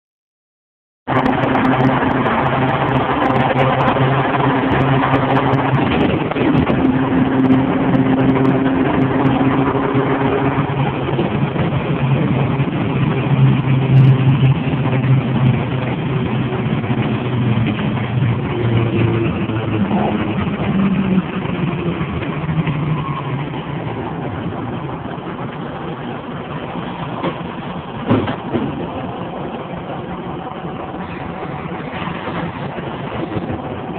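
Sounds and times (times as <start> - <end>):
bus engine running: 1.1 - 33.9.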